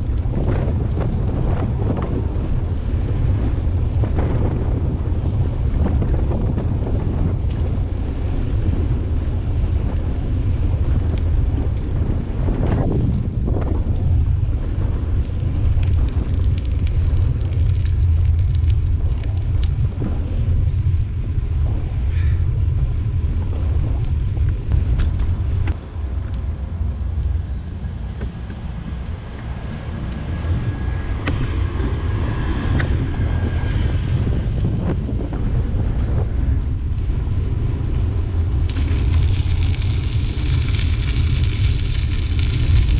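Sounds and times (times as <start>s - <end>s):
rumble of tyres on path: 0.0s - 42.9s
wind buffeting microphone: 0.0s - 42.9s.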